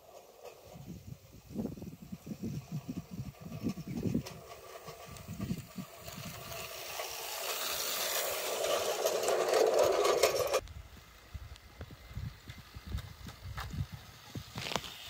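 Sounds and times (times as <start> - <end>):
model train rolling with clicks: 0.0 - 15.0.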